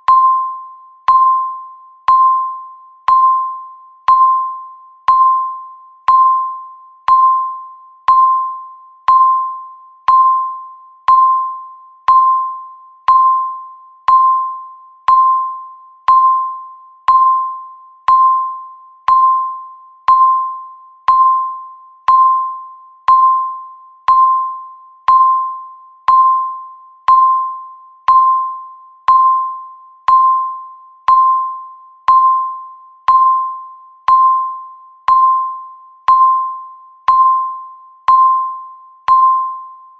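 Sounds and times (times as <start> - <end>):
electronic timer beep: 0.0 - 39.9.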